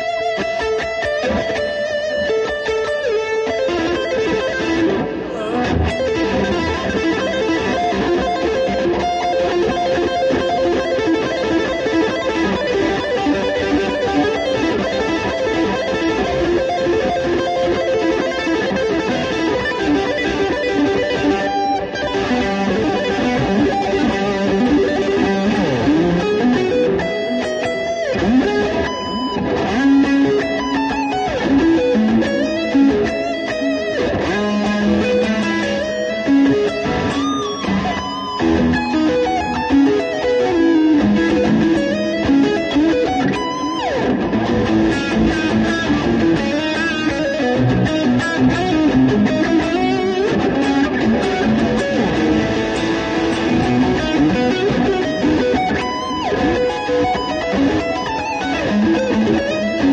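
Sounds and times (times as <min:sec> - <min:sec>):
electric guitar playing: 0:00.0 - 0:59.9.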